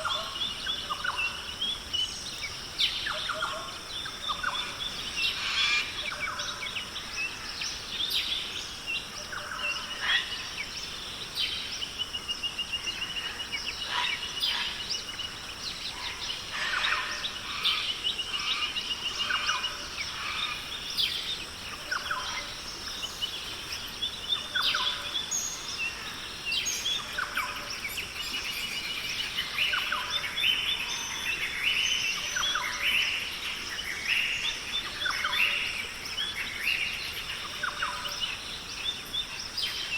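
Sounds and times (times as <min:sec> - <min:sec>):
bird chorus: 0:00.0 - 0:39.9
steady high-pitched hiss: 0:00.0 - 0:39.9.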